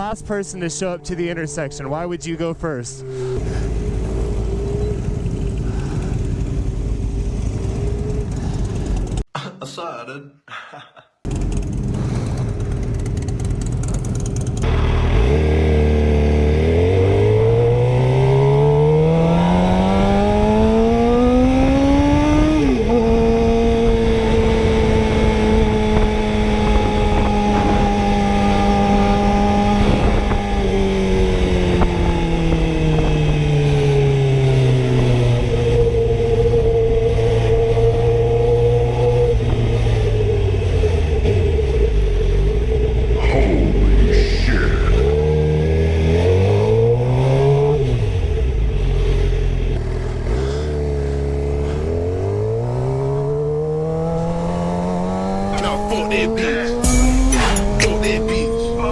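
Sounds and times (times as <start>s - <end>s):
motorcycle engine revving: 0.0s - 9.3s, 11.3s - 58.9s.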